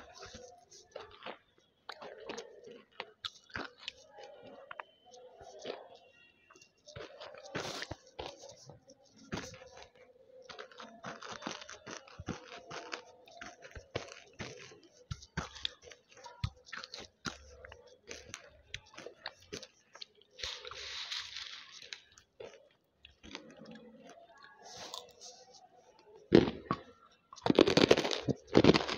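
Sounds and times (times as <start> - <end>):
crunching and chewing: 0.0 - 28.9.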